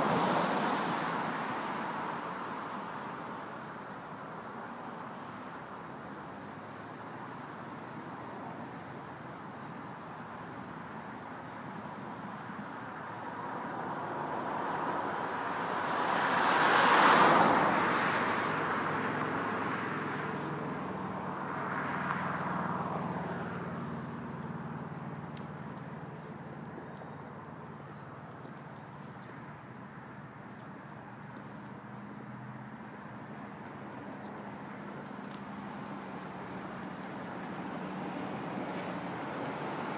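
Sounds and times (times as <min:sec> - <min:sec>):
insects chirring: 0:00.0 - 0:39.9
vehicle passing on road: 0:00.0 - 0:39.9.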